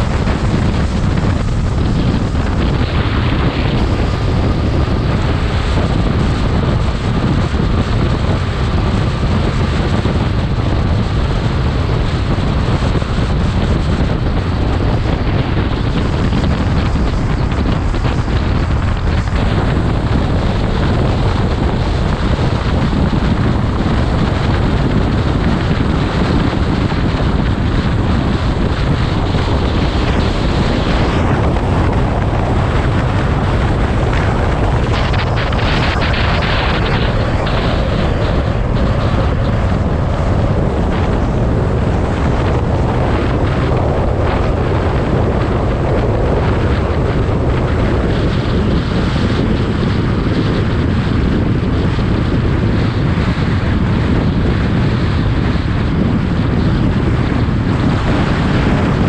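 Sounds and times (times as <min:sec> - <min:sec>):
road and engine noise: 0:00.0 - 0:59.0
wind rushing over microphone: 0:00.0 - 0:59.0.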